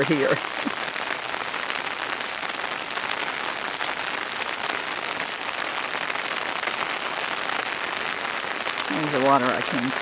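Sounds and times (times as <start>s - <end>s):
rain on an umbrella: 0.0s - 10.0s.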